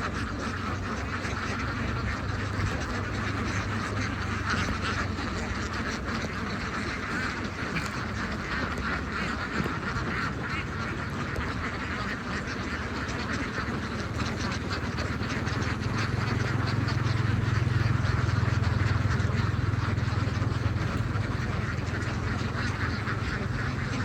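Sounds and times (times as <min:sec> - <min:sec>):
ducks quacking: 0:00.0 - 0:24.0
low steady rumble: 0:00.0 - 0:24.0.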